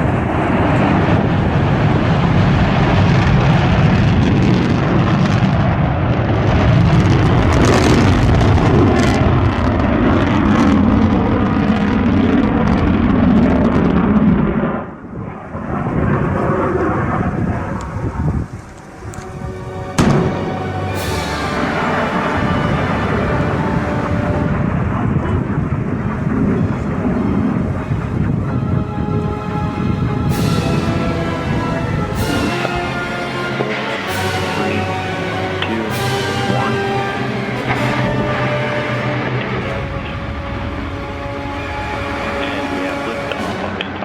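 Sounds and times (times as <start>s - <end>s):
rocket engine roar: 0.0s - 44.0s.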